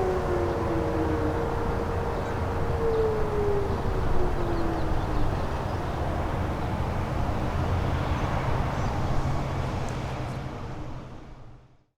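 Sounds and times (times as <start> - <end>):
low rumble of vehicle traffic: 0.0 - 11.8.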